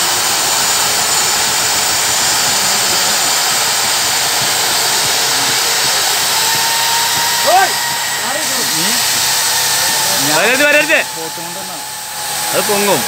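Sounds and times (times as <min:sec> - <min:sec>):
life raft gas inflation hissing: 0:00.0 - 0:13.0.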